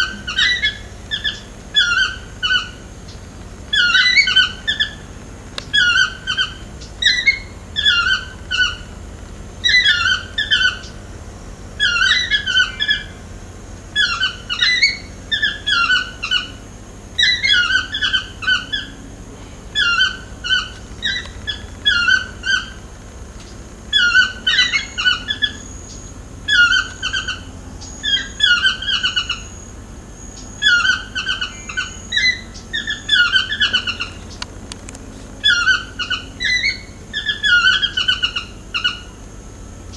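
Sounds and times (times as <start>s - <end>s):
toucan yelping call: 0.0s - 11.1s, 11.7s - 23.0s, 23.9s - 34.5s, 35.3s - 39.9s.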